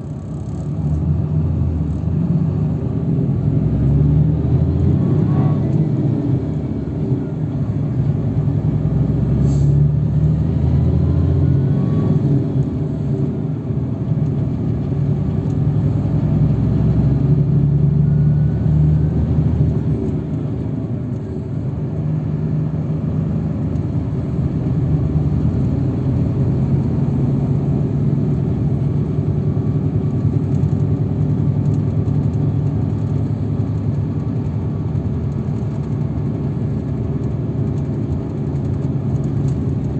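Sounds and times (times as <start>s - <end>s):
road rumble: 0.0s - 39.9s
vehicle engine drone: 0.0s - 39.9s.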